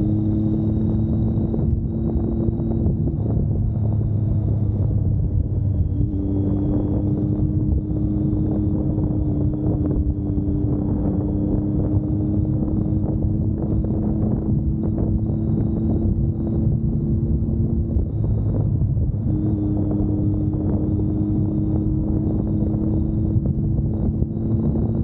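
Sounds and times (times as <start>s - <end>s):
vehicle engine running: 0.0s - 25.0s
wind buffeting microphone: 0.0s - 25.0s.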